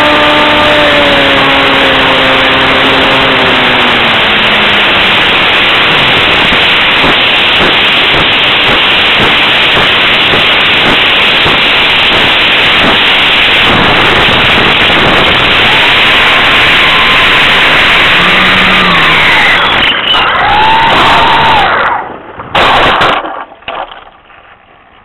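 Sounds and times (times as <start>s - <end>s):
wind rushing on microphone: 0.0s - 22.8s.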